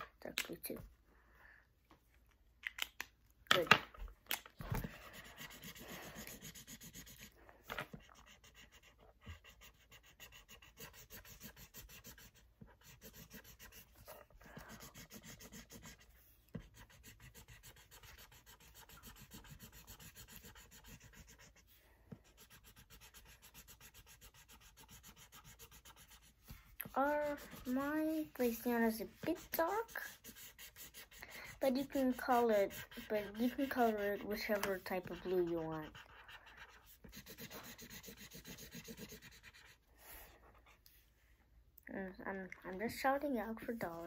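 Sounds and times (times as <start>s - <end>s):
marker rubbing on paper: 4.7s - 39.9s, 43.1s - 44.0s.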